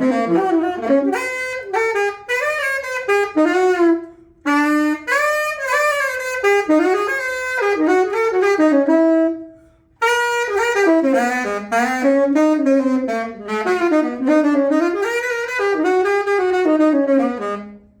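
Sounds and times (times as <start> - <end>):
tenor saxophone melody: 0.0 - 18.0.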